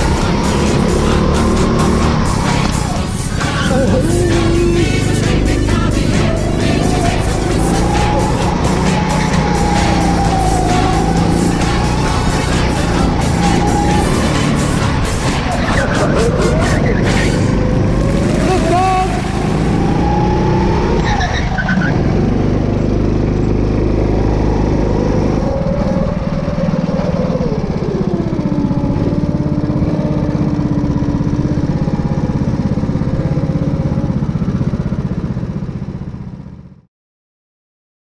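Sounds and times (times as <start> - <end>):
go-kart engine revving: 0.0 - 36.8.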